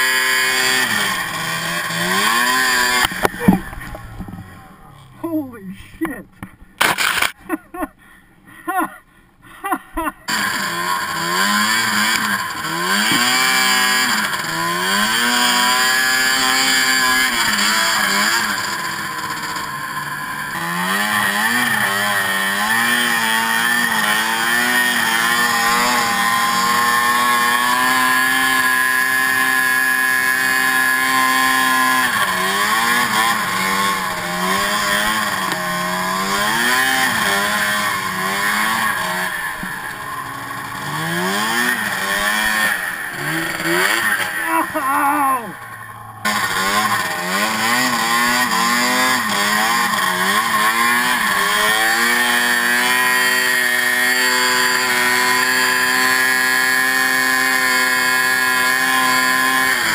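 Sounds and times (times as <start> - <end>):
snowmobile engine revving: 0.0 - 6.2, 6.8 - 7.9, 9.6 - 59.9.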